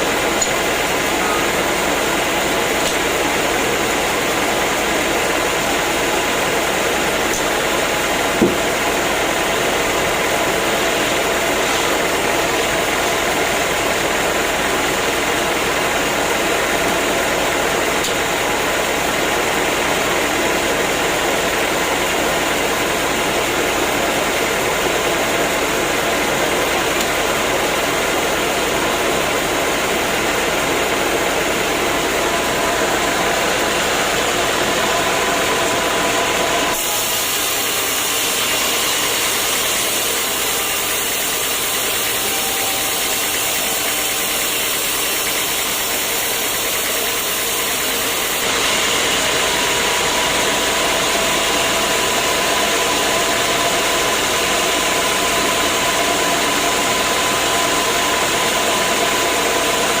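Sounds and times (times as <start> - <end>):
sawmill machinery running: 0.0 - 60.0.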